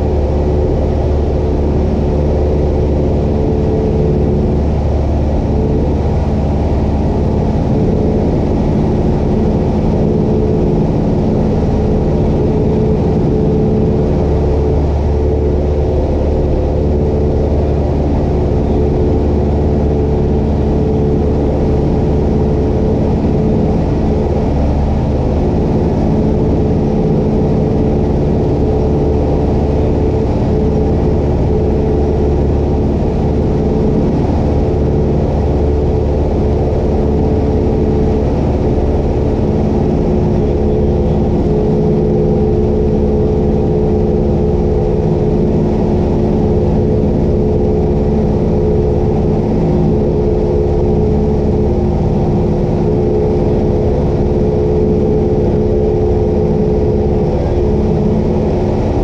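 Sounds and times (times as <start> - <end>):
plane engine droning in cabin: 0.0 - 59.0.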